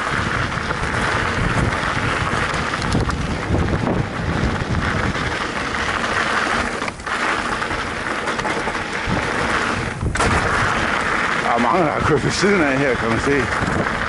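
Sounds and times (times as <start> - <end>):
bike tyres rattling on dirt: 0.0 - 14.0
wind noise on microphone: 0.0 - 14.0.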